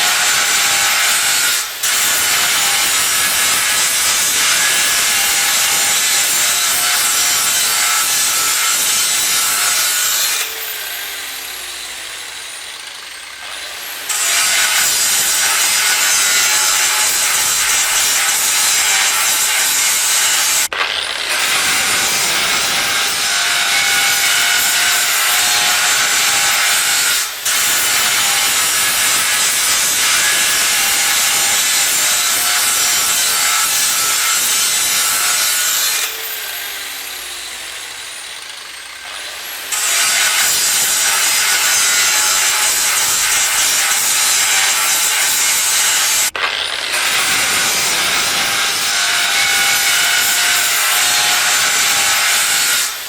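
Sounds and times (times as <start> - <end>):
harsh grinding of iron cutting: 0.0 - 53.0.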